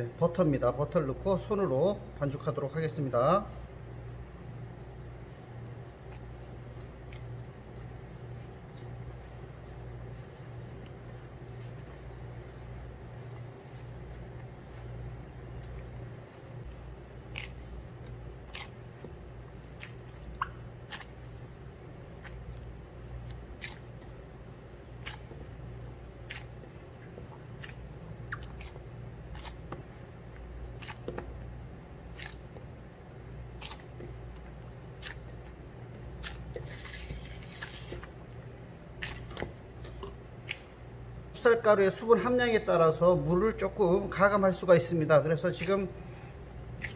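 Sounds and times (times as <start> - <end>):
steady low hum: 0.0 - 46.9
hands squishing crumbly dough: 0.3 - 46.9.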